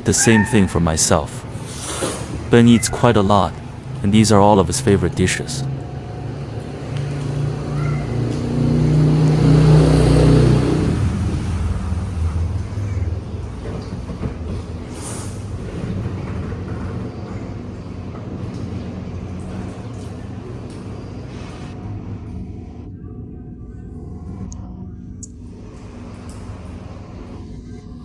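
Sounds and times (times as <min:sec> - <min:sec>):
low traffic rumble: 0:00.0 - 0:28.0
vehicle engine rumbling past: 0:00.0 - 0:28.0.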